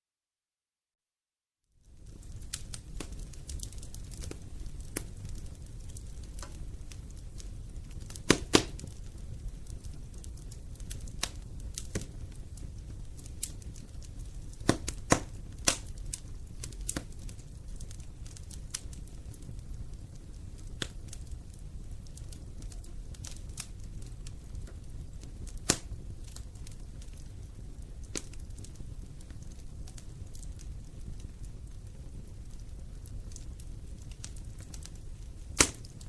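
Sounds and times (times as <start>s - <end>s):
low rumble of flames: 1.7s - 36.0s
wood fire crackling: 1.7s - 36.0s.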